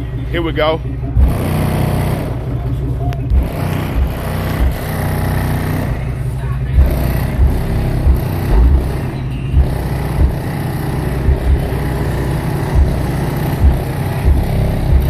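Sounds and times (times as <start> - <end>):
bass-heavy music from car subwoofers: 0.0 - 15.0.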